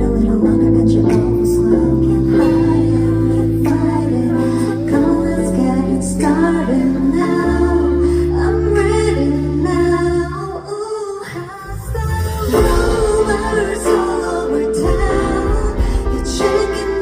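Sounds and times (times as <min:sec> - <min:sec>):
live band playing pop song: 0:00.0 - 0:17.0
woman singing: 0:00.0 - 0:17.0.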